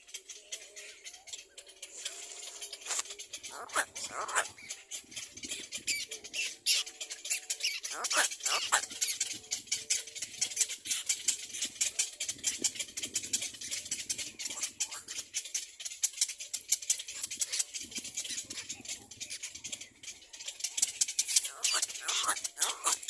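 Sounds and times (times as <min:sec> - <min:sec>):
birds clicking chatter: 0:00.0 - 0:23.0.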